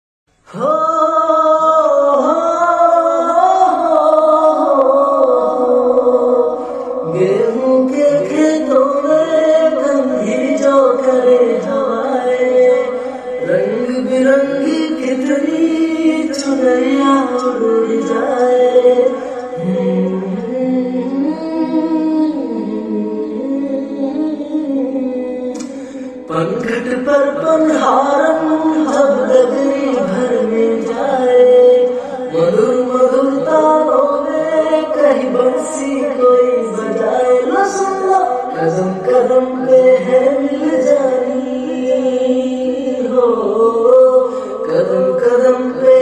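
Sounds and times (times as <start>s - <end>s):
song with singing voice: 0.3s - 46.0s.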